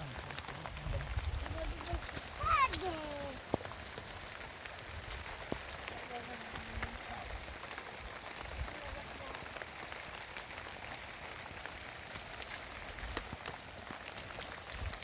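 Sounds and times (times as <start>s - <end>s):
heavy rain: 0.0s - 15.0s
raindrops ticking on hard surface: 0.0s - 15.0s.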